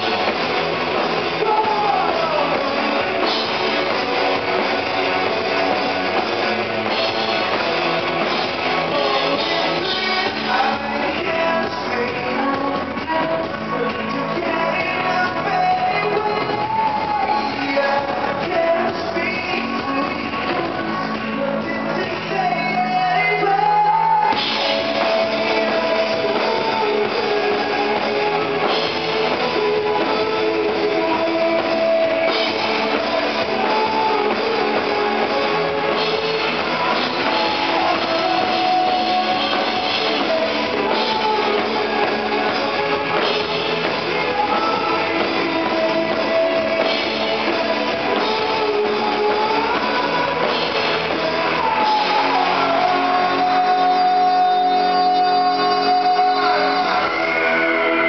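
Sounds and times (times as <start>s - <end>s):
drums: 0.0s - 58.0s
electric guitar: 0.0s - 58.0s
keyboards: 0.0s - 58.0s
man singing: 0.0s - 58.0s.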